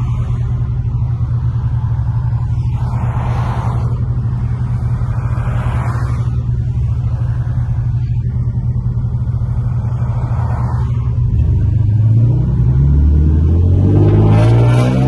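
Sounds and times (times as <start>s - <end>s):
car engine exhaust hum: 0.0s - 15.0s
road noise: 0.0s - 15.0s.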